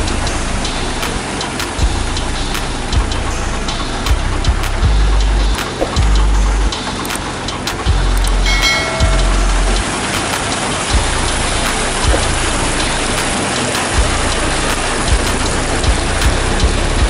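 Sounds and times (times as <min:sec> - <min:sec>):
truck engine and turning drum: 0:00.0 - 0:17.0.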